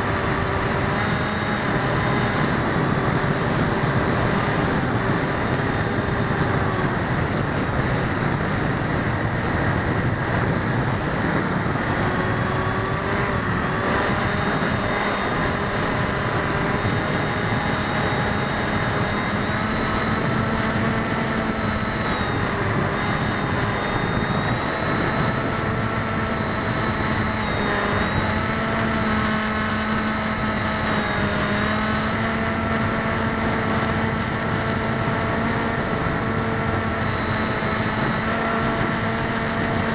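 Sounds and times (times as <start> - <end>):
model aircraft motors whining: 0.0 - 39.9.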